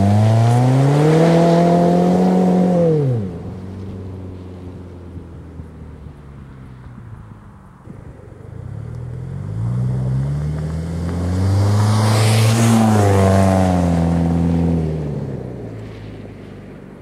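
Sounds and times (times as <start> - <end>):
car exhaust accelerating: 0.0 - 17.0.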